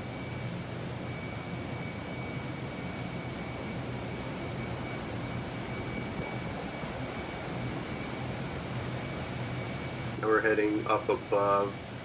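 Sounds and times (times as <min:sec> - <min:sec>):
high machinery whines: 0:00.0 - 0:12.0.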